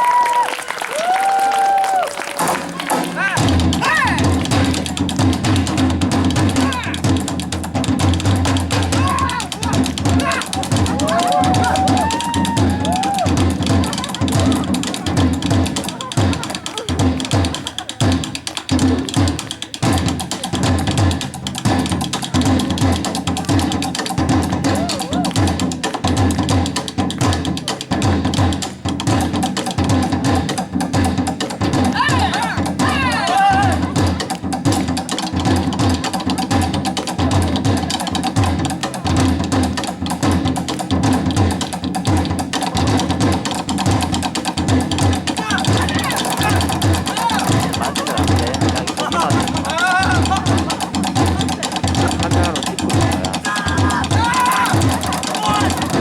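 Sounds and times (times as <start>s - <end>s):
percussion ensemble playing fast: 0.0s - 56.0s
deep booming drums: 3.2s - 56.0s.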